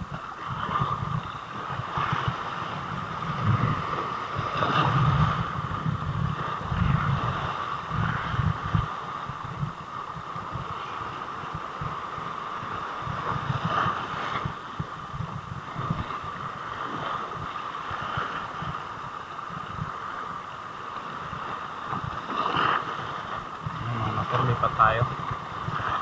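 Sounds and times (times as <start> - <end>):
sea water lapping and splashing: 0.0 - 26.0
wind buffeting microphone: 0.0 - 26.0.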